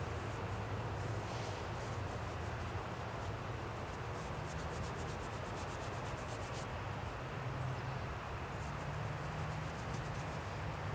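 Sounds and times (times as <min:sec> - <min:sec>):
paintbrush scratching on wood: 0:00.1 - 0:06.7, 0:08.5 - 0:10.9.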